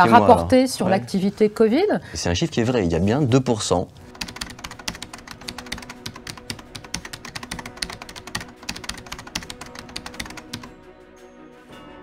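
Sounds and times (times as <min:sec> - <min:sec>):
faint music: 0:00.0 - 0:11.9.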